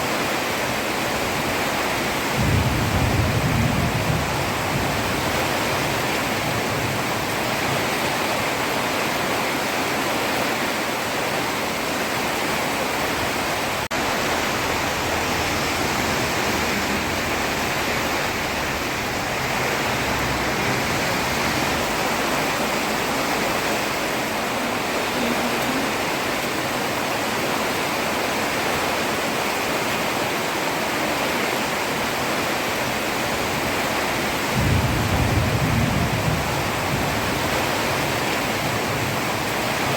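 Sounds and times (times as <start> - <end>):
heavy rain on road: 0.0 - 39.9.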